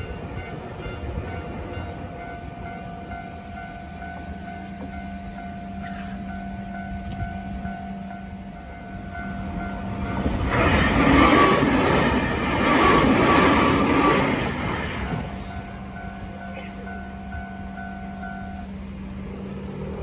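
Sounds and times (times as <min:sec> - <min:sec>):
level-crossing alarm ringing: 0:00.0 - 0:19.4
electric train passing: 0:00.0 - 0:20.0.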